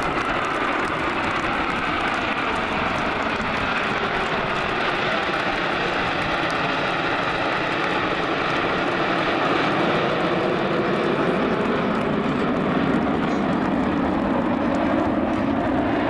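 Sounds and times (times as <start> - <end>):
jet aircraft flying over: 0.0 - 16.0.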